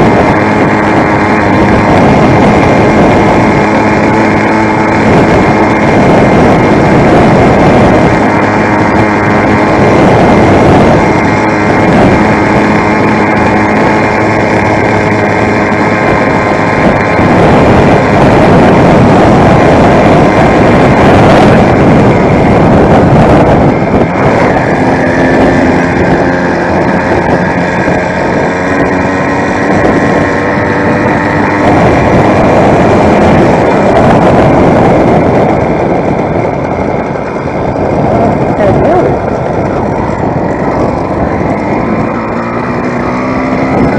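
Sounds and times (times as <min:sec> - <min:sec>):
two-stroke engine running: 0:00.0 - 0:43.9
wind on microphone: 0:00.0 - 0:43.9.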